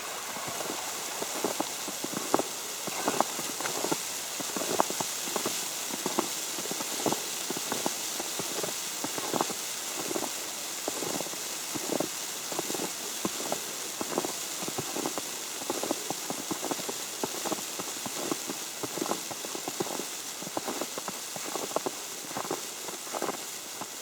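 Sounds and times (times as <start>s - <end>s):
snow ticking on umbrella: 0.0s - 24.0s
steady hiss: 0.0s - 24.0s.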